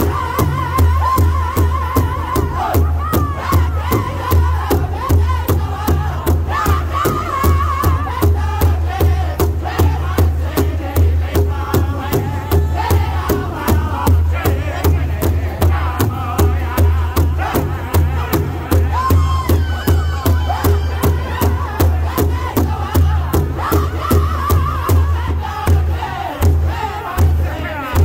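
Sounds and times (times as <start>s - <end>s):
group singing in wavering voices: 0.0s - 28.0s
large hide drum beating: 0.0s - 28.0s.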